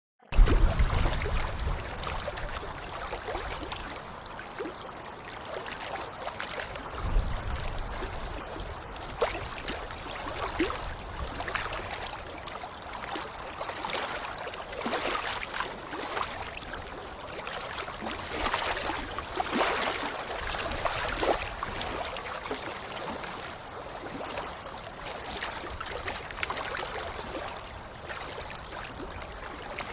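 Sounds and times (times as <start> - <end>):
water rushing: 0.3 - 29.9
water splashing: 0.3 - 29.9.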